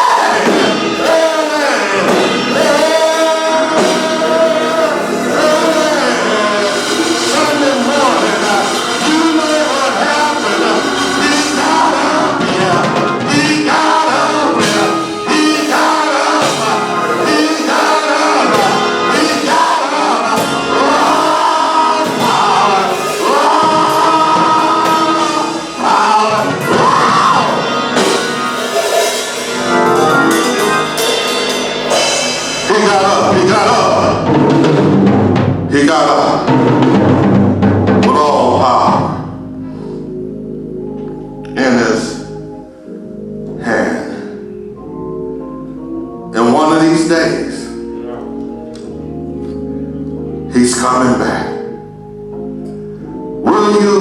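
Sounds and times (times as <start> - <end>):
gospel singing: 0.0 - 54.0
instrumental accompaniment: 0.0 - 54.0.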